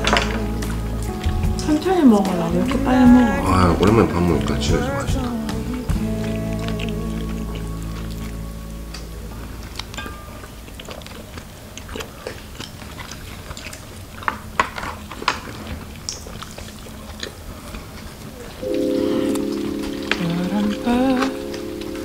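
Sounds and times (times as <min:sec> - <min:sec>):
chewing: 0:00.0 - 0:22.0.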